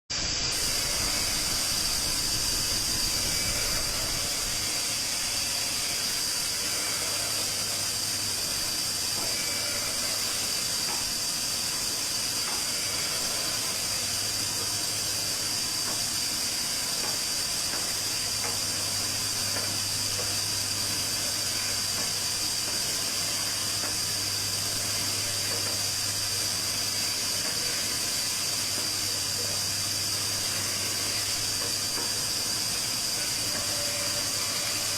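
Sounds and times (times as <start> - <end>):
steady high hiss: 0.1 - 34.9.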